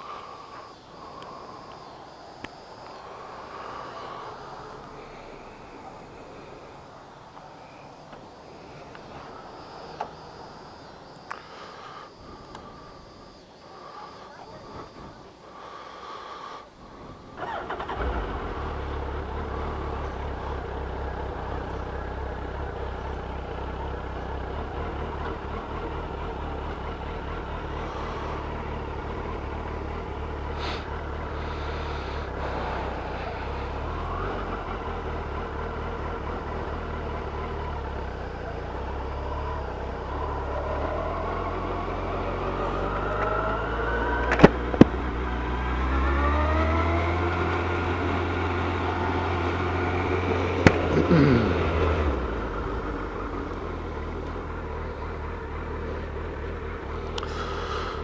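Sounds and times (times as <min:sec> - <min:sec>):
motorcycle engine starting and running: 0:00.0 - 0:58.0.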